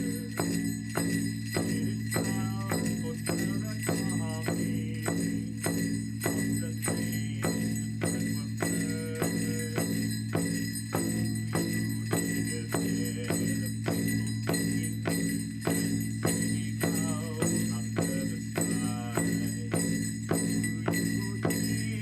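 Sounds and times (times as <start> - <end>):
high ringing tones: 0.0 - 22.0.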